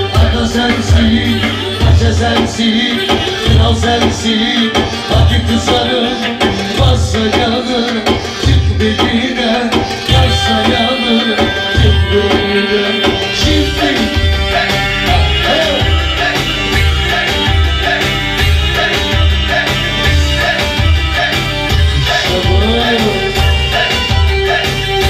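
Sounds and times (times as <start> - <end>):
loud drum beats: 0.0 - 25.0.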